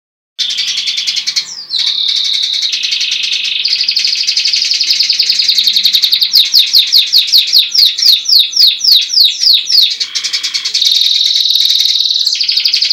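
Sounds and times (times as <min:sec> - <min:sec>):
songbird singing rolling trills: 0:00.4 - 0:12.9.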